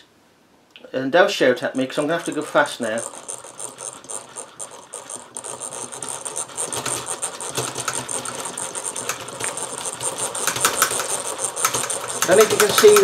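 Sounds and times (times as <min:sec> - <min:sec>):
metal model engine rattling: 0:01.7 - 0:13.0.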